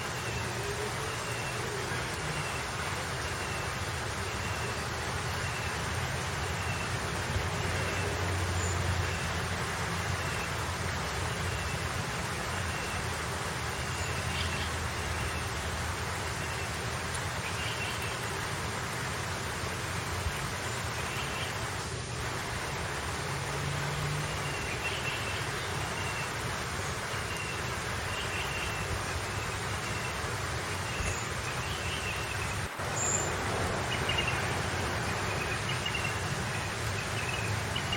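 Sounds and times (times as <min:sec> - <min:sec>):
outdoor background noise: 0:00.0 - 0:37.9.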